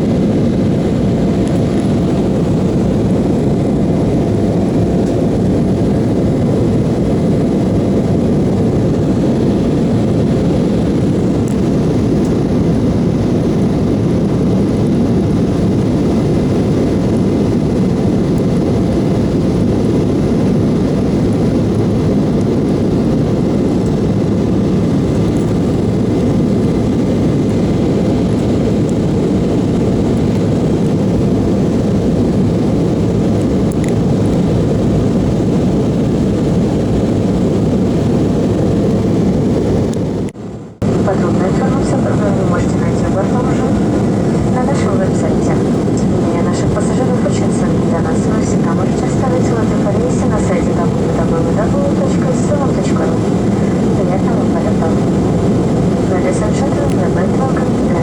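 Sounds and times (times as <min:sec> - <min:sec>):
airliner cabin engine rumble: 0:00.0 - 0:58.0
faint steady whine: 0:00.0 - 0:58.0.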